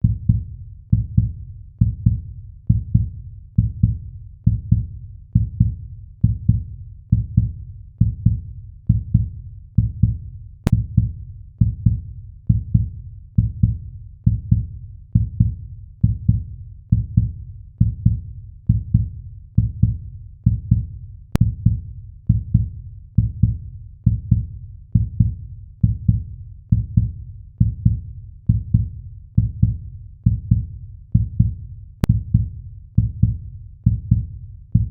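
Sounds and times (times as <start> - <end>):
heartbeat thumps: 0.0 - 34.9.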